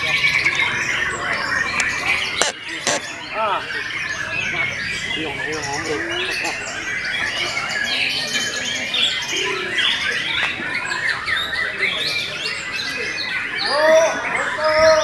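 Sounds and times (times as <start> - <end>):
chorus of songbirds singing: 0.0 - 15.0.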